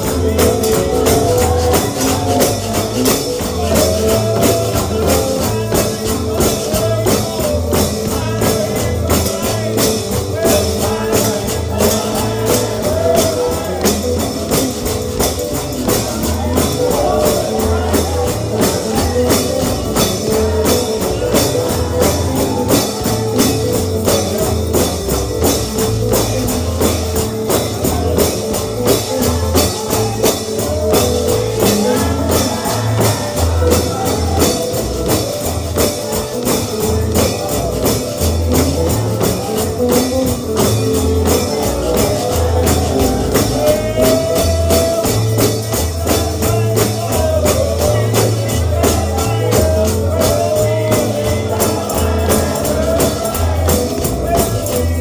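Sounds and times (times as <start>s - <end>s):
bluegrass gospel music: 0.0s - 55.0s
low bass notes: 0.0s - 55.0s
tambourine beat: 0.0s - 55.0s.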